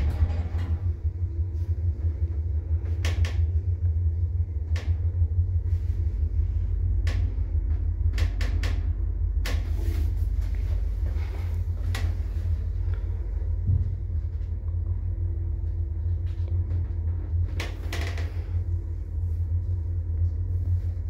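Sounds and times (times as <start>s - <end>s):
lift car rumbling: 0.0s - 21.0s.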